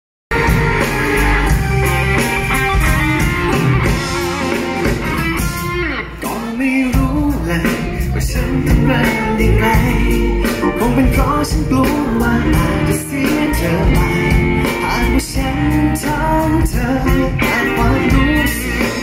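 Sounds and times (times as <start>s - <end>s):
drum kit: 0.3s - 19.0s
electric bass guitar: 0.3s - 19.0s
electric guitar: 0.3s - 19.0s.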